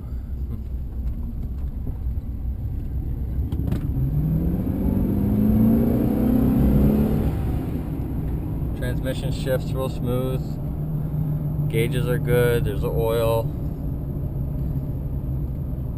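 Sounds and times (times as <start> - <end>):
truck engine accelerating: 0.0 - 15.9.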